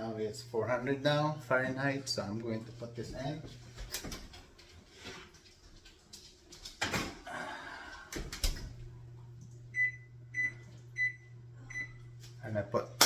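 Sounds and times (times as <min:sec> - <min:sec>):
oven humming: 0:00.0 - 0:05.1, 0:05.9 - 0:13.0.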